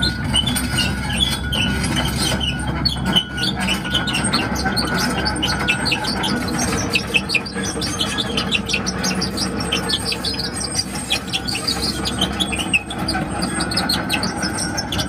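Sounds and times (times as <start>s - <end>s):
diesel engine running: 0.0s - 15.0s
tracks squeaking and clinking: 0.0s - 15.0s.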